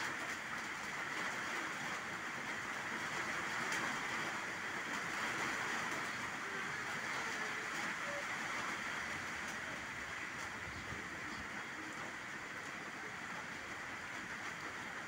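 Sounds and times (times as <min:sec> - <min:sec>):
steady rain on water and leaves: 0:00.0 - 0:15.0.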